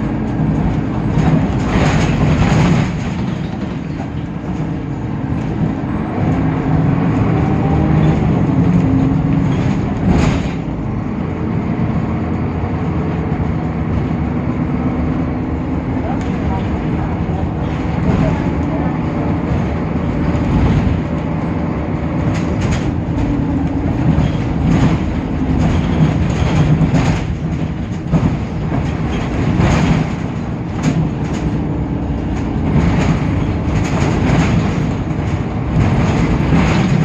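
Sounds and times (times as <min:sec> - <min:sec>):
bus body knocks and rattles: 0:00.0 - 0:37.0
bus diesel engine drone: 0:00.0 - 0:37.0.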